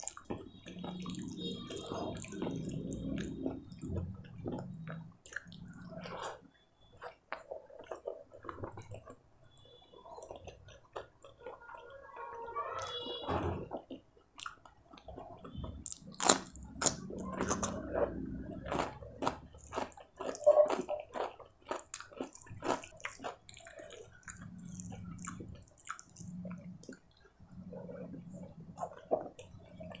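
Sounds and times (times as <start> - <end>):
wet chewing: 0.0 - 30.0.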